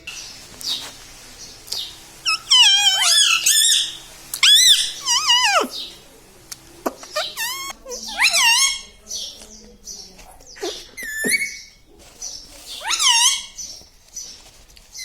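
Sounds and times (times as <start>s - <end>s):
parrot chirps and calls: 0.0s - 13.8s.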